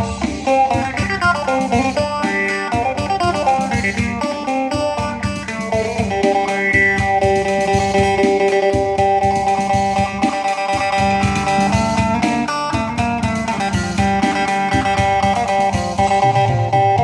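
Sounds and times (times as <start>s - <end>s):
droning string: 0.0s - 16.4s
plucked lute melody: 0.0s - 17.0s.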